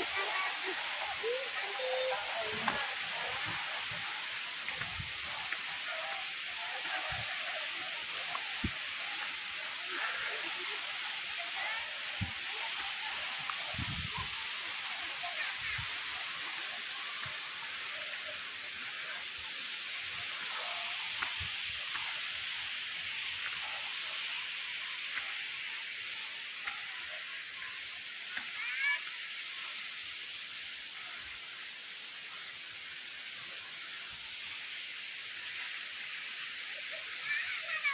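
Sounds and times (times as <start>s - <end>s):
waterfall hissing: 0.0s - 37.9s.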